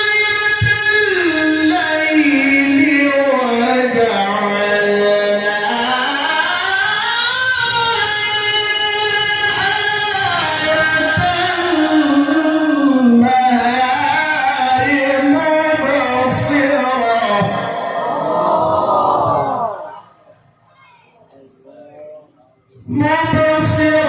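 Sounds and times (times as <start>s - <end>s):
man reciting in melodic chant: 0.0s - 20.4s, 21.3s - 24.0s.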